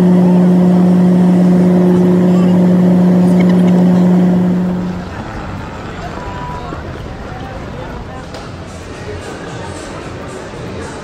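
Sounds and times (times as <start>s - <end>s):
constant low hum: 0.0s - 11.0s
jet engine and airflow drone: 0.0s - 11.0s.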